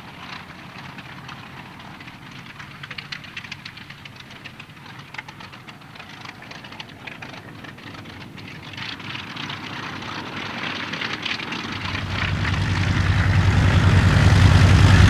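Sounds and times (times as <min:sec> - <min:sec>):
propeller aircraft engines droning: 0:00.0 - 0:15.0.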